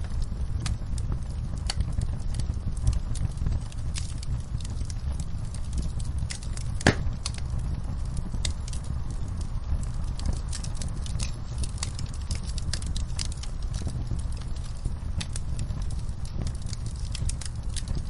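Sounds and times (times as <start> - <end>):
fireplace fire crackling: 0.0 - 18.0
steady low rumble: 0.0 - 18.0.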